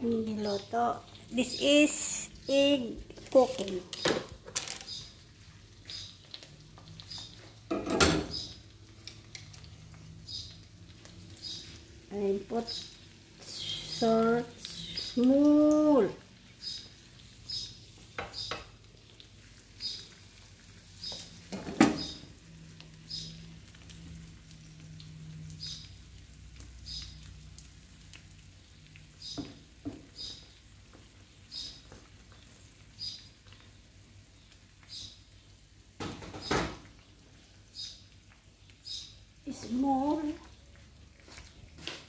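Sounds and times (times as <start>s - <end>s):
eggs sizzling in a pan: 0.0s - 42.0s.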